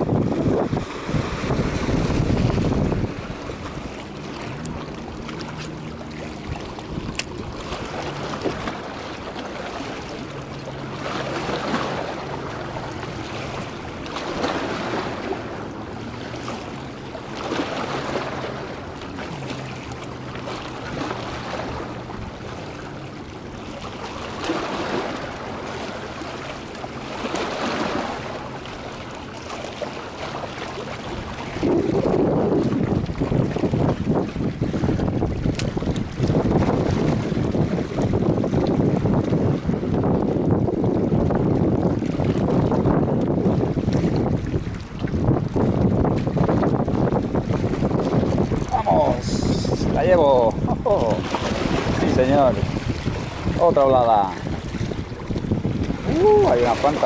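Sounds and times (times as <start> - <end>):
waves washing against rocks: 0.0 - 57.0.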